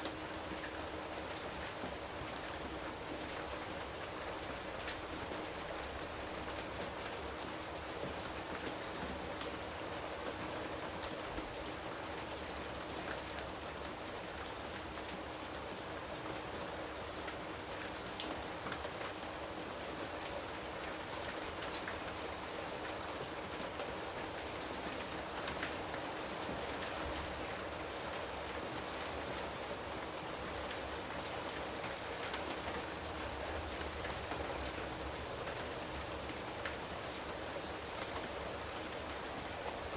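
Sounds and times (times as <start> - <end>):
steady rain on leaves: 0.0 - 39.9.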